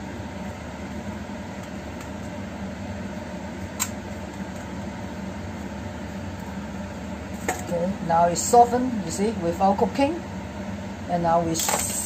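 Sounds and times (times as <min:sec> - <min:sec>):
fan-like mechanical hum: 0:00.0 - 0:12.0.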